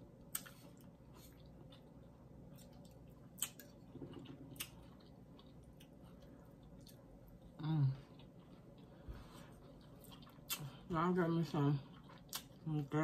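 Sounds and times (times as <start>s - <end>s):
soft wet chewing: 0.0s - 13.0s.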